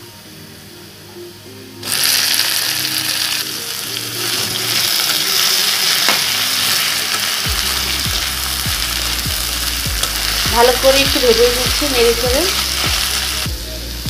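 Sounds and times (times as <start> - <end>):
greens sizzling in hot oil: 1.8 - 14.0.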